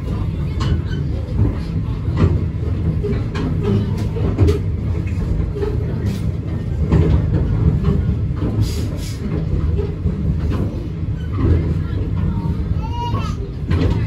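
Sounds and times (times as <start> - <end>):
train running gear rumble: 0.0 - 14.0
wheels clicking over rail joints: 0.0 - 14.0.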